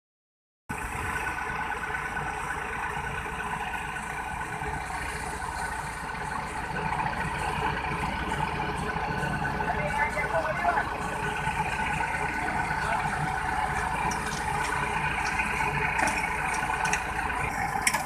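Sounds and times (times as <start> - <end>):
heavy farm machinery engine running: 0.7 - 18.0.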